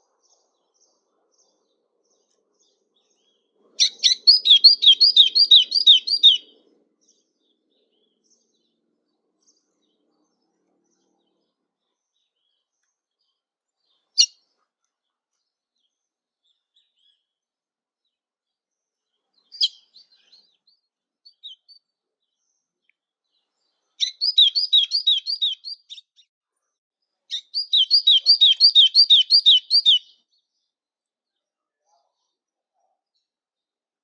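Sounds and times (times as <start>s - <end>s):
songbird singing: 0.0s - 17.4s, 18.0s - 26.3s, 27.2s - 33.3s.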